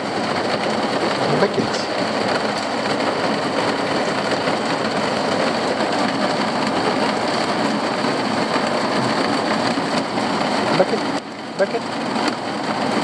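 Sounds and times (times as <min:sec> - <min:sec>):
rain on a roof: 0:00.0 - 0:13.0.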